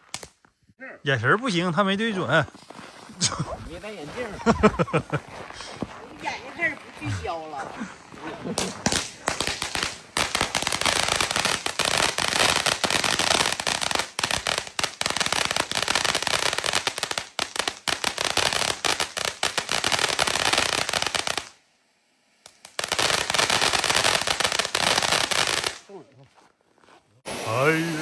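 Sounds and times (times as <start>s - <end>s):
firecrackers popping and crackling: 0.0s - 0.6s, 2.2s - 21.6s, 22.3s - 26.0s, 27.2s - 28.0s.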